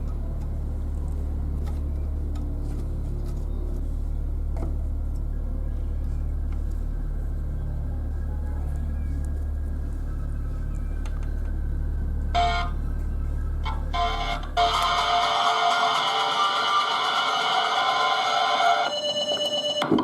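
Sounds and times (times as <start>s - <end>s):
subwoofer playing deep bass: 0.0s - 16.8s.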